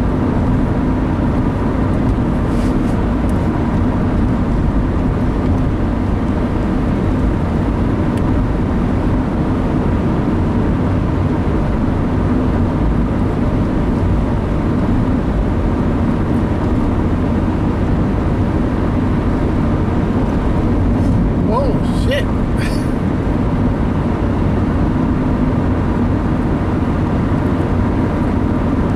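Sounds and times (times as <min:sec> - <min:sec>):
road and engine rumble in car: 0:00.0 - 0:28.9.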